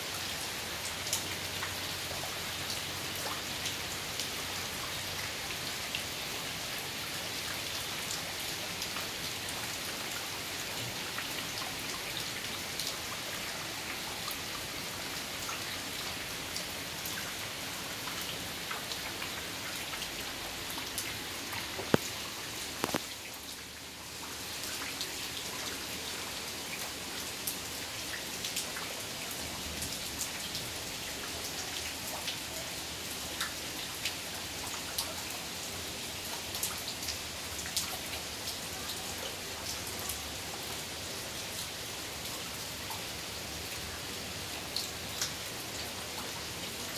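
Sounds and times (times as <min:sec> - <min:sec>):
heavy rain pouring: 0:00.1 - 0:46.9.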